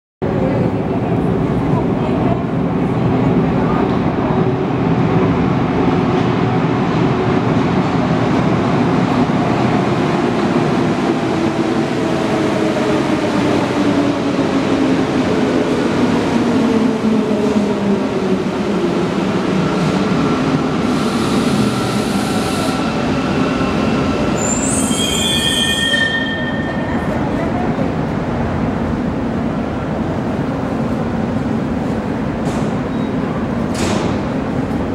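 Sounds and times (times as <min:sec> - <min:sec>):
metro train rumbling and braking: 0:00.2 - 0:34.9.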